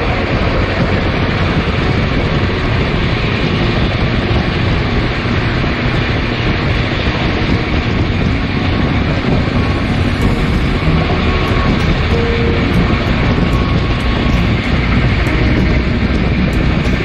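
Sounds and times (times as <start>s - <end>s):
passing train: 0.0s - 17.0s
train rumbling at speed: 0.0s - 17.0s
wind on microphone: 0.0s - 17.0s.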